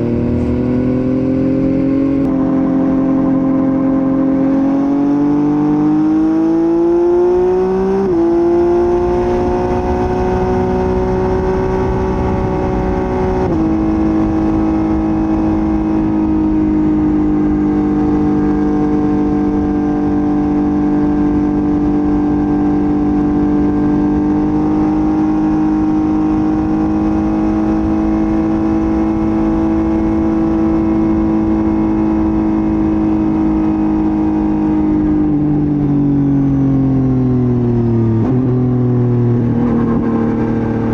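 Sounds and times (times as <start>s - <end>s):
low wind rumble: 0.0s - 40.9s
motorcycle engine: 0.0s - 40.9s.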